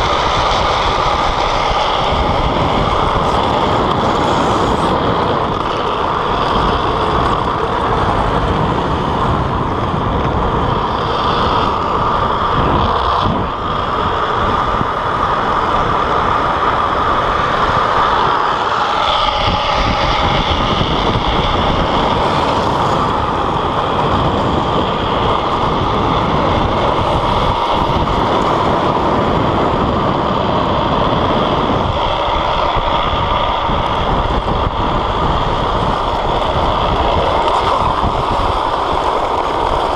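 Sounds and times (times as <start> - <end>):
plastic wheels scraping asphalt: 0.0 - 39.9
wind buffeting microphone: 0.0 - 39.9.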